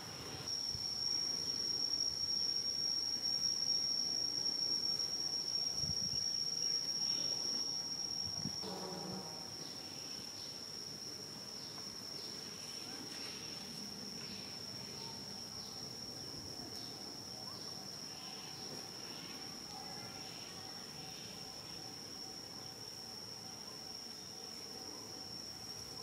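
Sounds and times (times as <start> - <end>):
high-pitched insect drone: 0.1 - 26.0.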